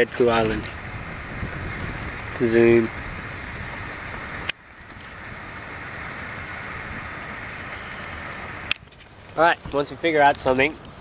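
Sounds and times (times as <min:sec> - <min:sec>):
outdoor rushing noise: 0:00.0 - 0:11.0.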